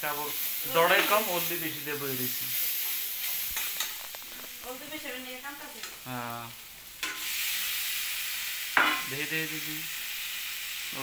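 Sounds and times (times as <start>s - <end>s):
eggs sizzling in a wok: 0.0s - 11.0s.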